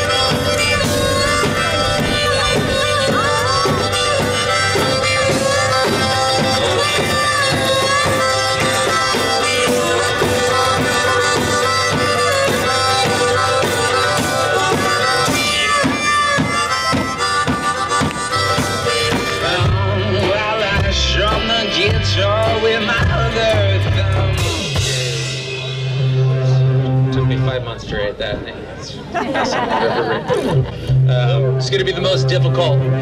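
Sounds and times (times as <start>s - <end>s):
pedal drum beat: 0.0s - 27.0s
bass: 0.0s - 29.2s, 30.1s - 33.0s
bending lead melody: 0.0s - 29.2s, 29.8s - 33.0s
guitar: 0.0s - 33.0s.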